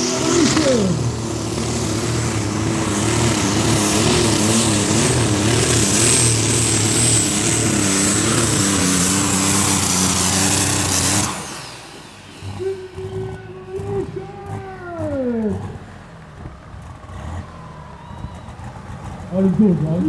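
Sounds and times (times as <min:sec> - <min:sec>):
diesel engine running hard: 0:00.0 - 0:20.0.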